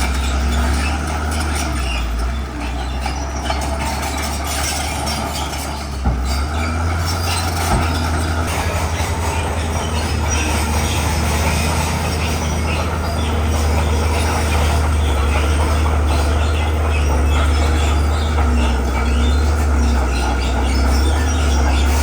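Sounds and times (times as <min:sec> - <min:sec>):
bulldozer diesel drone: 0:00.0 - 0:22.0
steel tracks clattering and squealing: 0:00.0 - 0:22.0.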